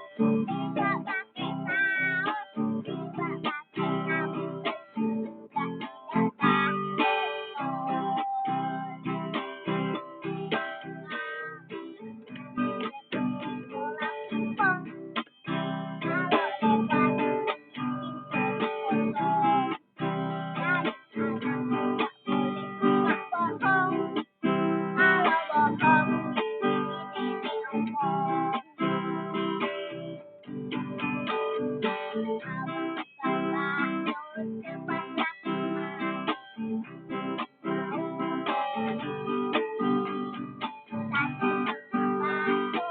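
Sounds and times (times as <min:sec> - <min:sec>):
acoustic guitar strumming: 0:00.0 - 0:42.9
child singing: 0:00.0 - 0:42.9.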